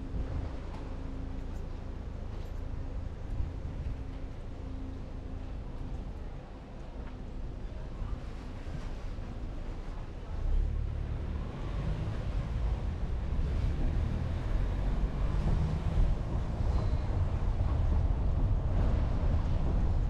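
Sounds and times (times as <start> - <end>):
wind buffeting microphone: 0.0 - 1.0, 2.0 - 6.4, 7.6 - 20.0
faint street noise: 0.0 - 20.0.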